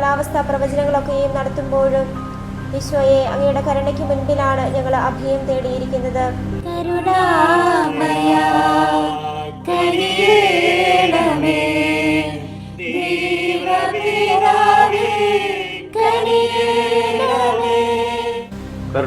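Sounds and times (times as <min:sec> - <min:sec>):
slow prayer music: 0:00.0 - 0:19.0
wordless choir-like vocals: 0:00.0 - 0:19.0.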